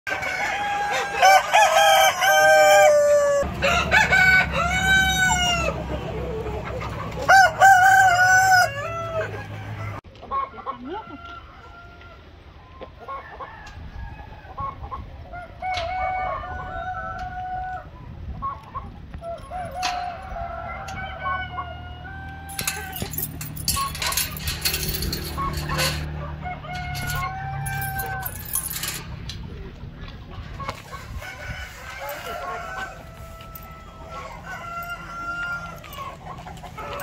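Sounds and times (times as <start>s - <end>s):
roosters crowing: 0.1s - 10.0s, 10.8s - 18.1s, 19.1s - 29.3s, 30.4s - 37.0s
hens clucking: 0.1s - 37.0s.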